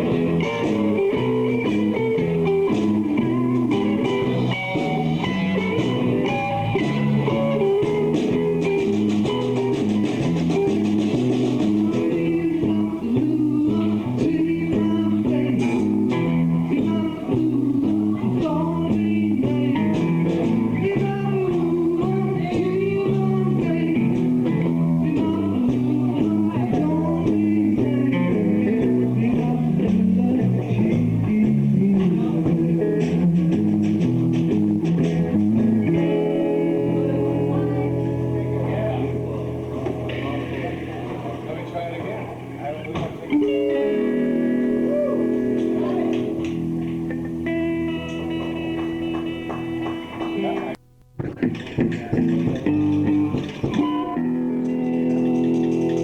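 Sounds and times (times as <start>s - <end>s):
bass: 0.0s - 56.0s
drums: 0.0s - 56.0s
live blues-rock band playing: 0.0s - 56.0s.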